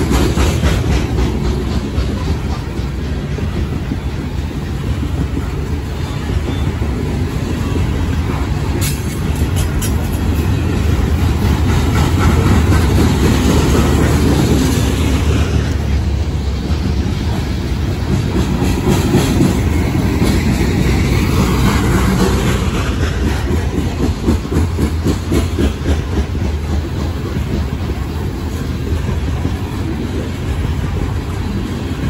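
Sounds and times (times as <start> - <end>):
freight train wheels rumbling: 0.0 - 32.0
wheels clacking over rail joints: 0.0 - 32.0.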